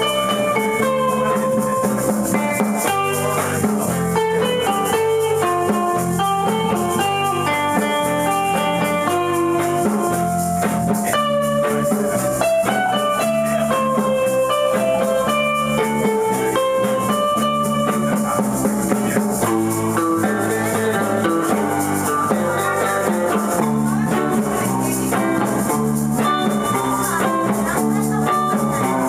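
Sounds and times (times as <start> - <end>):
drums: 0.0 - 29.0
electric surf guitars: 0.0 - 29.0
shaker rattling on the beat: 0.0 - 29.0.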